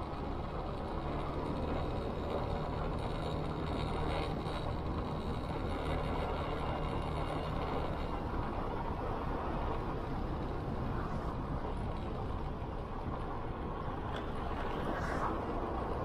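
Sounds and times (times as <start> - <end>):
motorcycle engine hum: 0.0 - 16.0
wind and road noise: 0.0 - 16.0.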